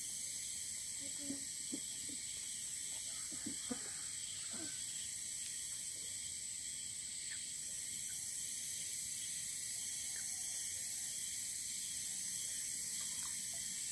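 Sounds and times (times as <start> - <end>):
insect chorus hiss: 0.0 - 13.9
insects chirring: 0.0 - 13.9.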